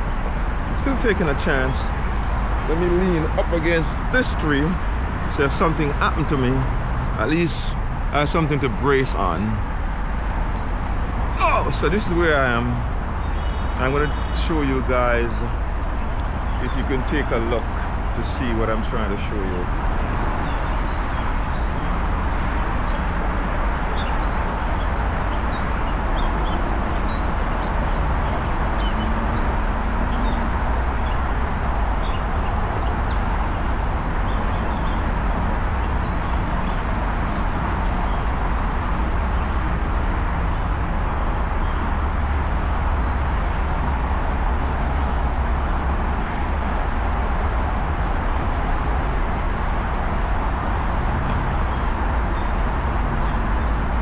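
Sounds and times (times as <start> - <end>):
distant road traffic roar: 0.0 - 54.0.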